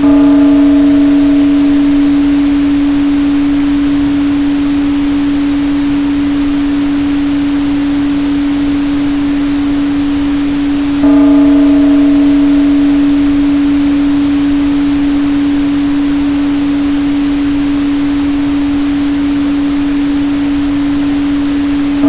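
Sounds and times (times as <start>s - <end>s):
ringing tone with overtones: 0.0s - 22.0s
steady tone: 0.0s - 22.0s.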